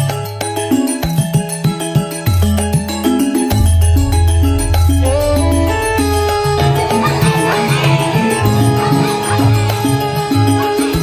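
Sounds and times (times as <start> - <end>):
music with bass line and steady beat: 0.0 - 11.0.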